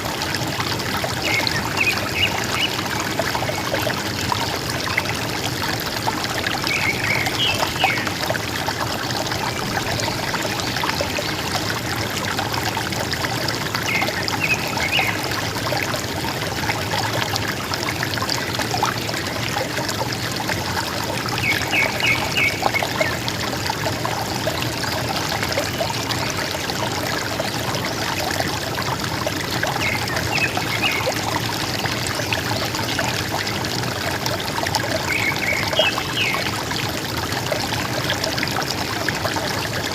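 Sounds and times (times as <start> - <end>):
river water gurgling: 0.0 - 39.9.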